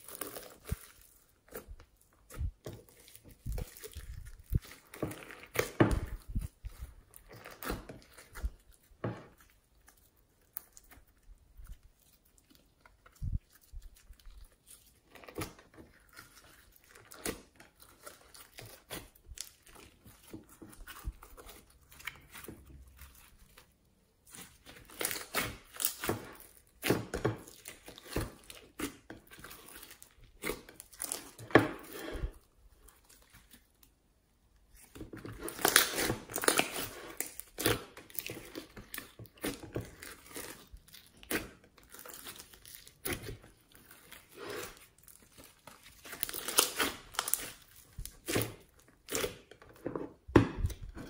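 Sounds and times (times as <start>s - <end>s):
slime squelching and crackling: 0.0s - 51.0s.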